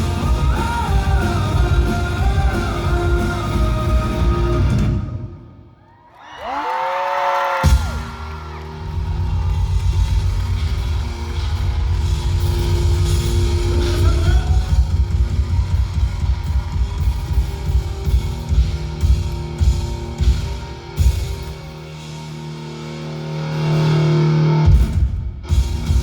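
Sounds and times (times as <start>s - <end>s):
drum kit: 0.0s - 5.4s, 7.5s - 26.0s.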